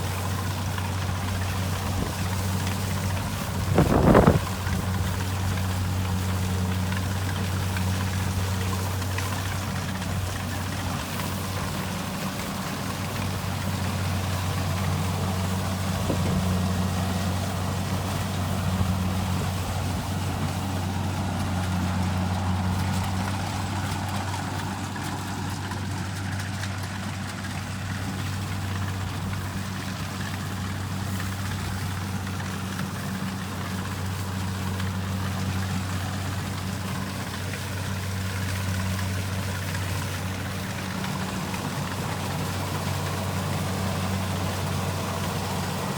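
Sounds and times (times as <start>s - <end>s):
diesel engine drone: 0.0s - 45.9s.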